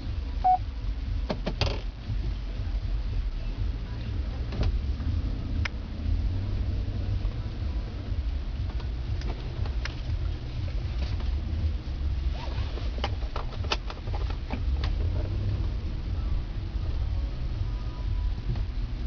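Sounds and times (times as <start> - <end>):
car engine rumble from inside: 0.0 - 19.0.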